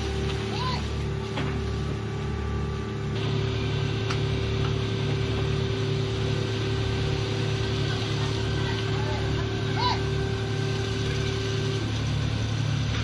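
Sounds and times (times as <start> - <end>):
boat engine throbbing drone: 0.0 - 13.0.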